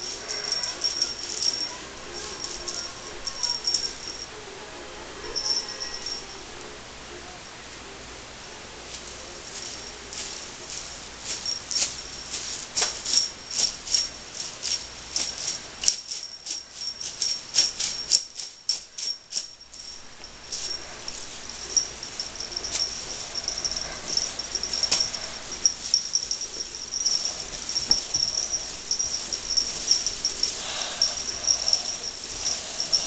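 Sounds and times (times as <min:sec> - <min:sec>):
tinsel teaser swishing: 0:00.0 - 0:04.3, 0:09.4 - 0:33.0.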